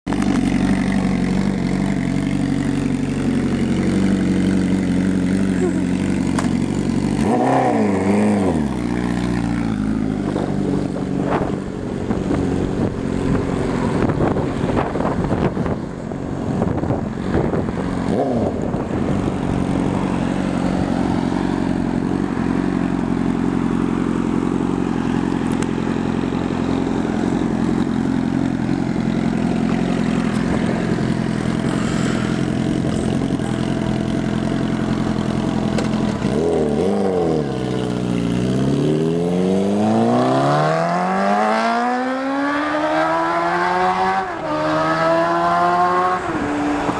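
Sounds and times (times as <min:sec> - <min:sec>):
motorcycle revving and accelerating: 0:00.0 - 0:46.9
steady engine drone: 0:00.1 - 0:46.9.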